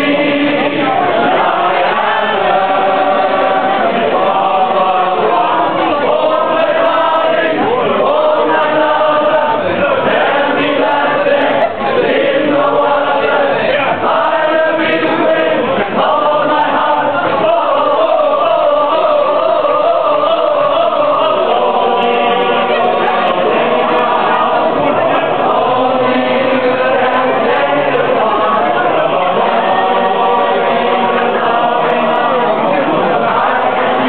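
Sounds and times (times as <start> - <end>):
people singing in chorus: 0.0 - 34.0.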